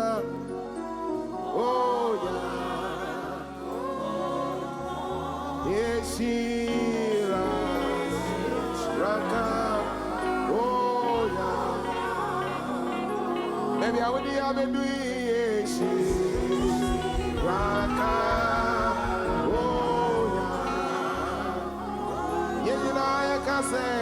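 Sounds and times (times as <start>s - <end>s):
person singing long sliding notes: 0.0s - 24.0s
sustained chords: 0.0s - 24.0s
bass line: 4.7s - 24.0s.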